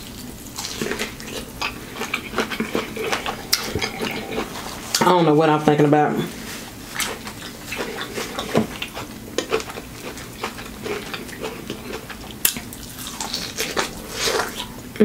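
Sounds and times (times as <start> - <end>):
wet chewing and smacking: 0.0 - 5.2, 6.9 - 14.9.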